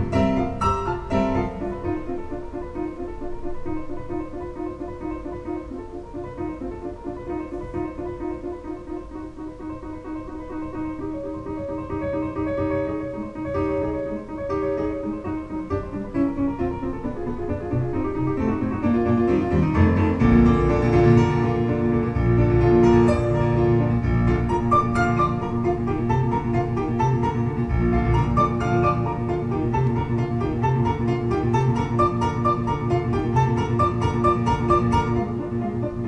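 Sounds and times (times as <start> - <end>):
piano music over loudspeakers: 0.0 - 36.0.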